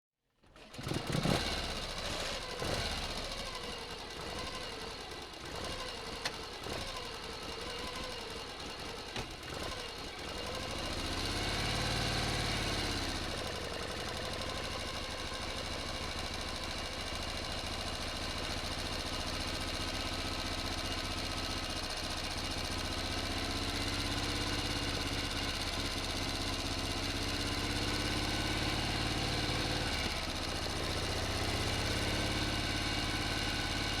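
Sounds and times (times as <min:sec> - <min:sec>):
motorcycle engine running: 0:00.5 - 0:34.0.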